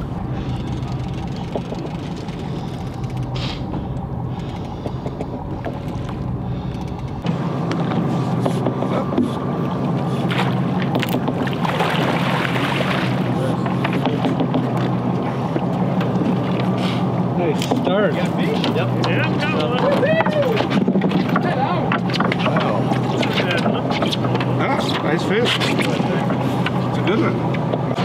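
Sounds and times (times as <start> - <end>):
boat engine running: 0.0 - 28.0
water noise: 0.0 - 28.0.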